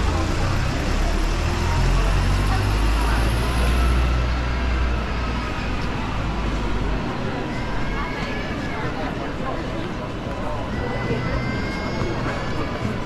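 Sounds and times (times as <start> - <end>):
heavy vehicle engine rumble: 0.0 - 13.0
pedestrians chattering: 0.0 - 13.0.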